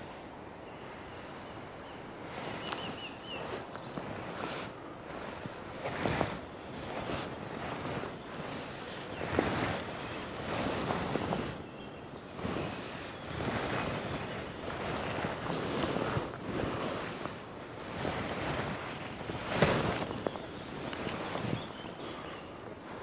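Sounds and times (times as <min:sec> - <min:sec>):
wind gusting on microphone: 0:00.0 - 0:23.0.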